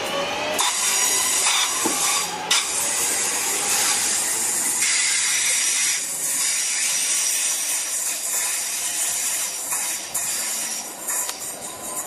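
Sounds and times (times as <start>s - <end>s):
train hissing on rails: 0.0s - 12.0s.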